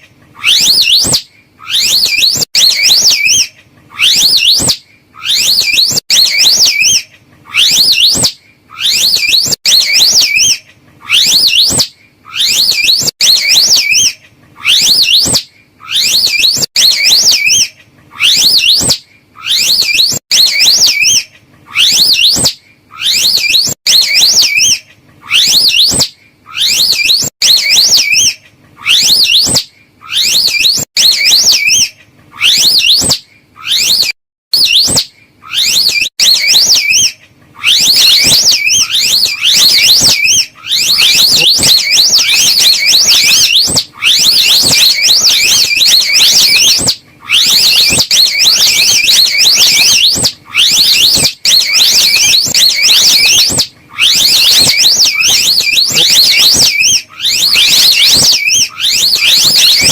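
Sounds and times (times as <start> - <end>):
slow loris warbling trills: 0.4 - 59.9.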